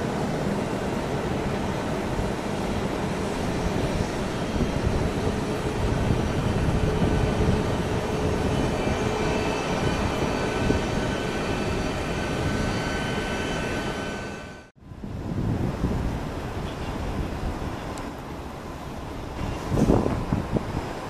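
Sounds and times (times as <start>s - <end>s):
jet engines rumbling with whine: 0.0s - 21.0s.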